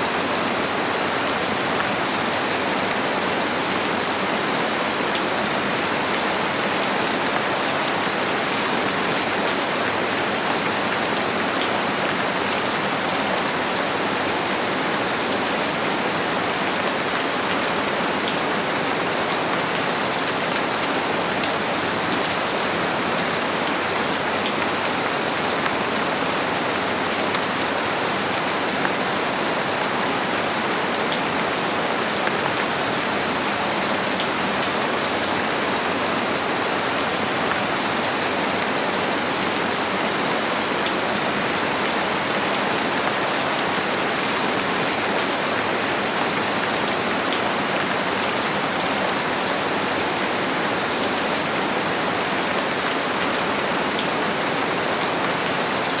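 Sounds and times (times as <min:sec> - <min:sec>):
rain pattering on surfaces: 0:00.0 - 0:56.0.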